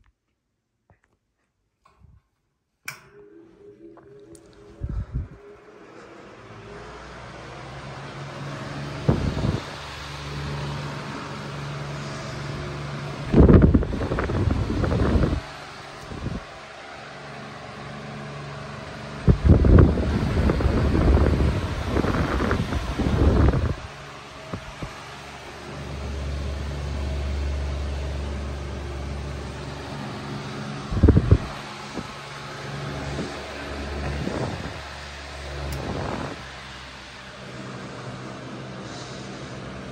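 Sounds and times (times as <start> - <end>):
floor fan running: 2.8 - 39.9
air buffeting microphone: 4.4 - 16.6, 18.6 - 39.9.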